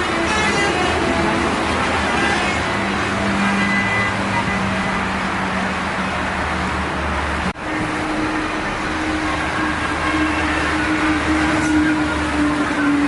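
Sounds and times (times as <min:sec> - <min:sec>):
vehicles passing on busy road: 0:00.0 - 0:13.0.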